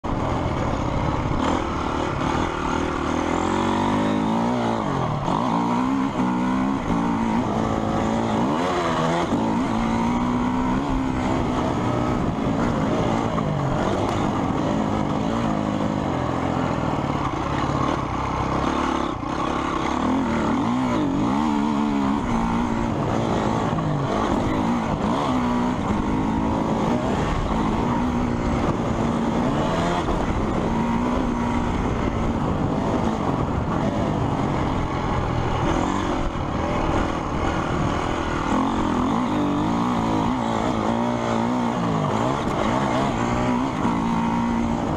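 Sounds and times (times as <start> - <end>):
motocross engines revving: 0.1 - 44.9.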